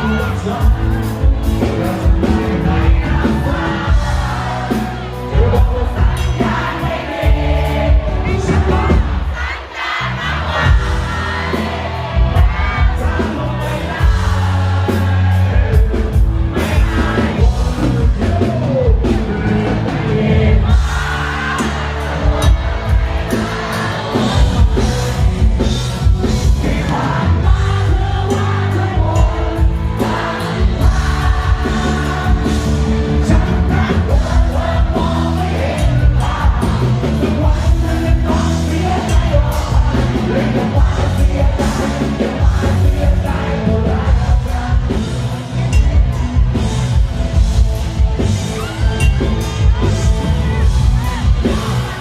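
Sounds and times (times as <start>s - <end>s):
drums beating: 0.0s - 52.0s
live band playing: 0.0s - 52.0s.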